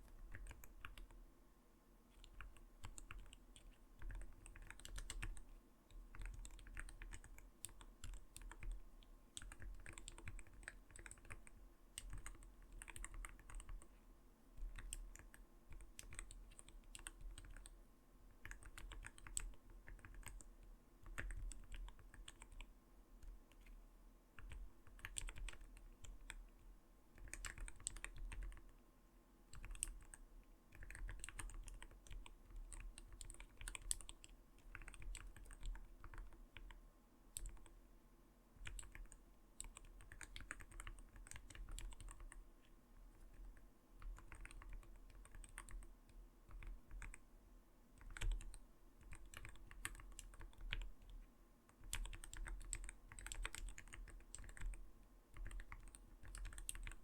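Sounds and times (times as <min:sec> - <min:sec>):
mechanical keyboard typing: 0:00.0 - 0:01.2, 0:02.1 - 0:13.9, 0:14.6 - 0:17.8, 0:18.4 - 0:23.7, 0:24.4 - 0:26.4, 0:27.2 - 0:28.7, 0:29.5 - 0:36.8, 0:37.4 - 0:37.7, 0:38.6 - 0:42.4, 0:43.1 - 0:45.9, 0:46.5 - 0:47.2, 0:48.0 - 0:57.0.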